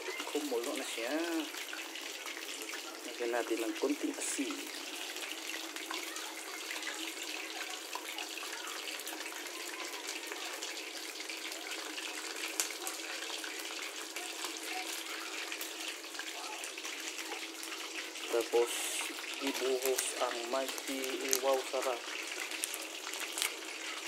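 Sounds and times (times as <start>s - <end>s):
soup boiling and bubbling: 0.0s - 24.0s.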